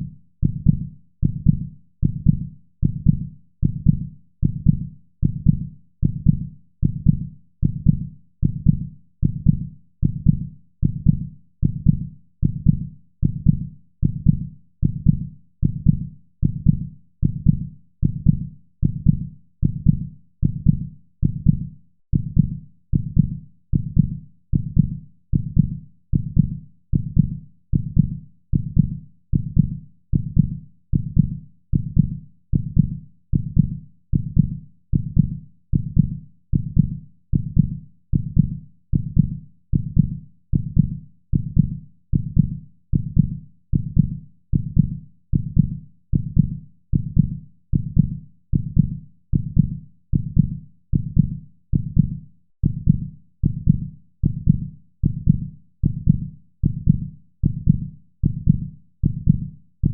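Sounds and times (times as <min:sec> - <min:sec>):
heartbeat thuds: 0:00.0 - 0:59.9.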